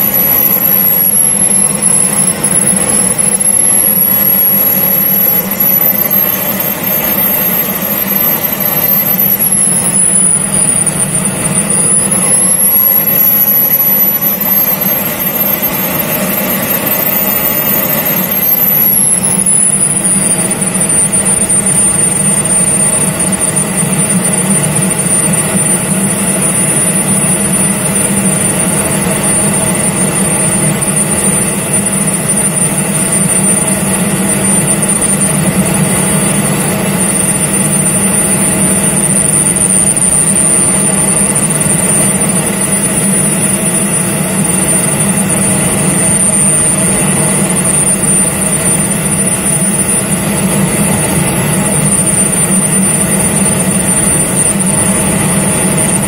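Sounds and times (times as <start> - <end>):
model jet engine whine: 0.0 - 56.0.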